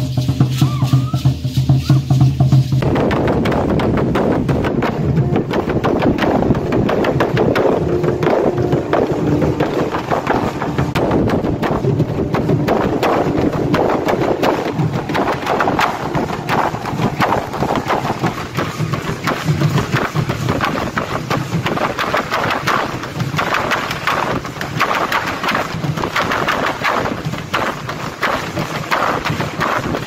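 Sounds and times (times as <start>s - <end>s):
drum beating steadily: 0.0s - 30.0s
stamping feet: 2.8s - 30.0s.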